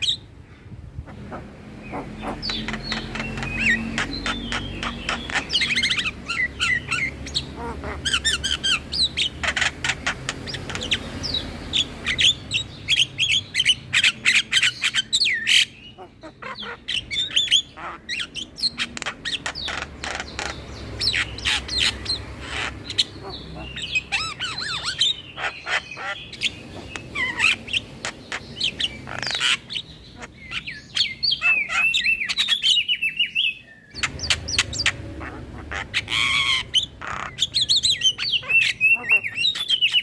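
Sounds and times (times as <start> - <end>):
myna bird chattering: 0.0 - 40.0.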